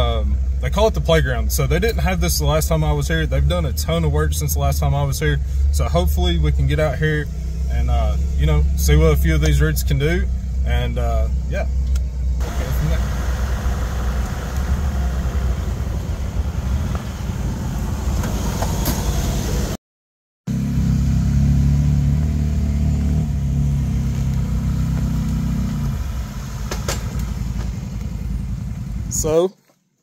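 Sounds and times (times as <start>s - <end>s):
car engine running at low speed: 0.0s - 19.8s, 20.5s - 29.4s.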